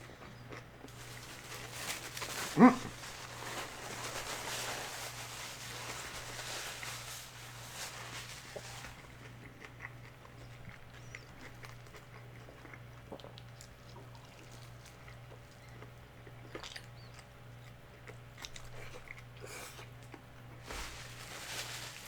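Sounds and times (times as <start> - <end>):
chewing crispy food: 0.0 - 22.0.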